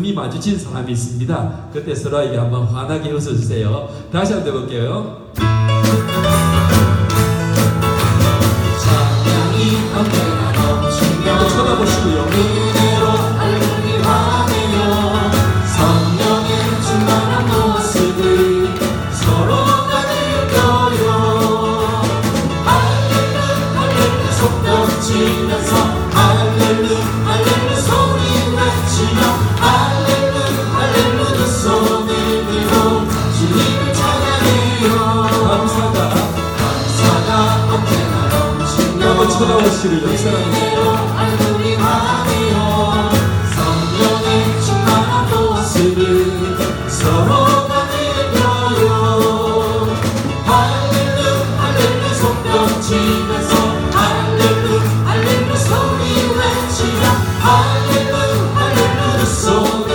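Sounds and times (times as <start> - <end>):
worship band playing: 3.9 - 59.9
congregation singing: 6.3 - 59.9
group singing praise song: 7.6 - 59.9.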